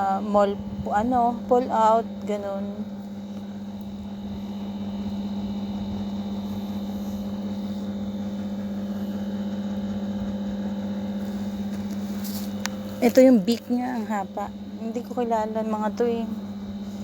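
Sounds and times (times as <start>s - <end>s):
low droning hum: 0.0s - 17.0s.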